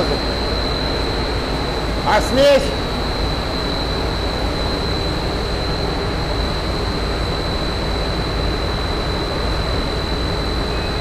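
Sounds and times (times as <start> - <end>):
constant high whine: 0.0 - 11.0.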